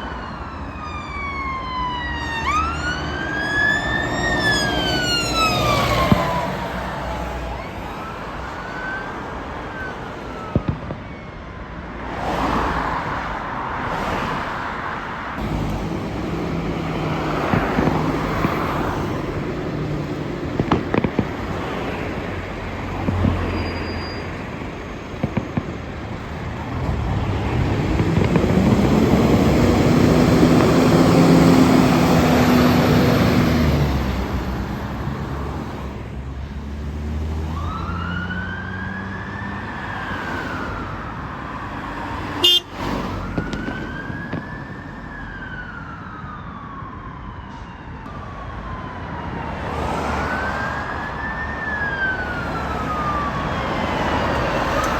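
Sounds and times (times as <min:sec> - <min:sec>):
siren wailing: 0:00.0 - 0:11.7, 0:15.5 - 0:35.0, 0:37.4 - 0:54.9
fire engine passing: 0:00.0 - 0:54.9.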